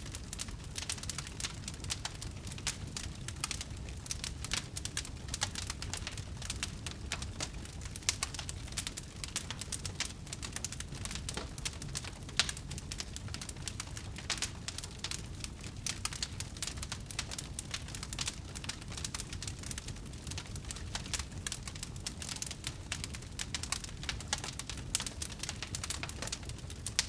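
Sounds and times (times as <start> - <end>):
low rumble of flames: 0.0 - 27.0
wood fire crackling: 0.0 - 27.0.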